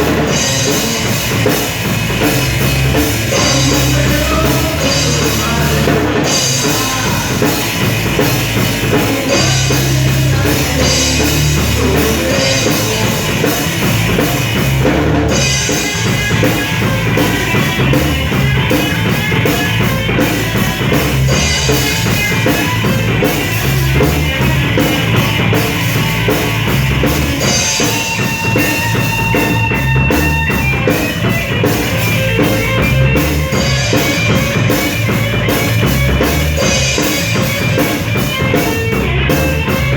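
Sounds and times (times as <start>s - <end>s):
loud rock music: 0.0s - 39.9s.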